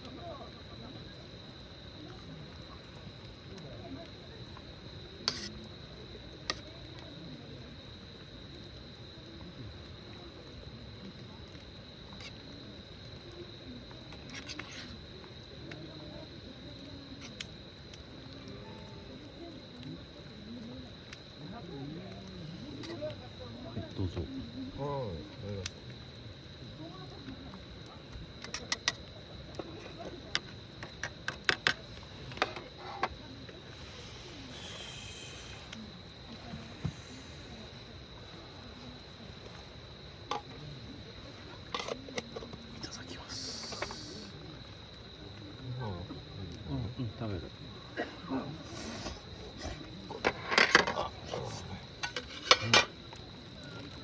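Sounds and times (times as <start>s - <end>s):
faint distant voices: 0.0s - 54.0s
insects trilling: 0.0s - 54.0s.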